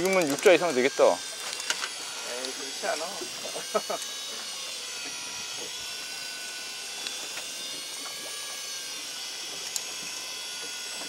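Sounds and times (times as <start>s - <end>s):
electric reel motor whining: 0.0s - 11.0s.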